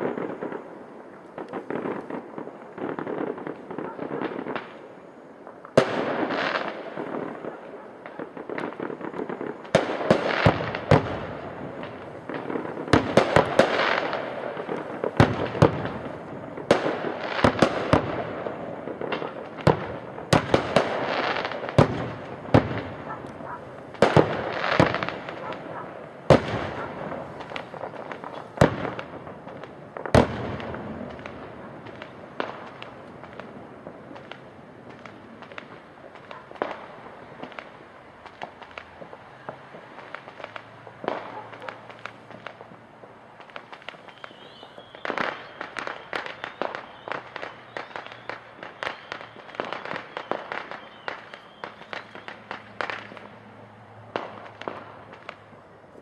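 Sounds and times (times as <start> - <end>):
firework shells bursting: 5.5 - 53.4.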